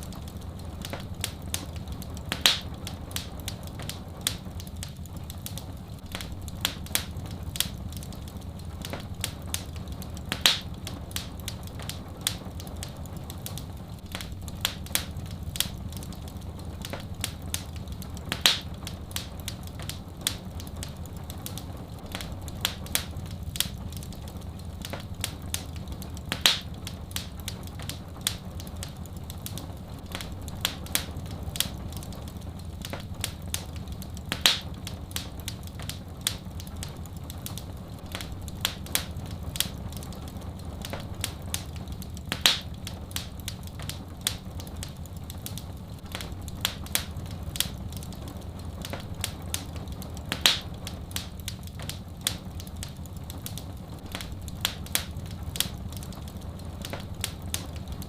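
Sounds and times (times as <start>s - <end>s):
fire crackling and popping: 0.0s - 58.0s
low fire rumble: 0.0s - 58.0s.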